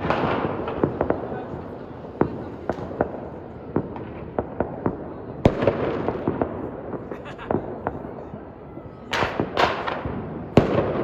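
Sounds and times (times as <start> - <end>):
firecrackers bursting sharp bangs: 0.0 - 11.0
rumble of distant explosions: 0.0 - 11.0.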